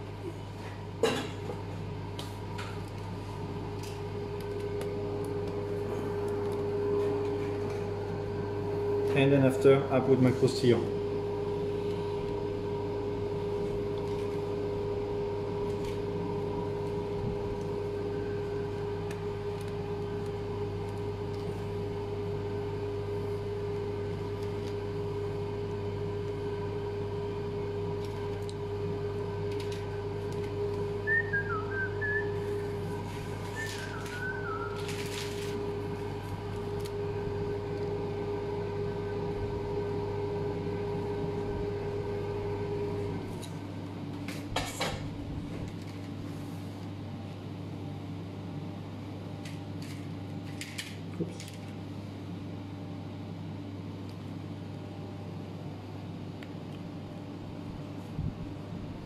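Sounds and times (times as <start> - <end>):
air conditioning humming drone: 0.0 - 59.0.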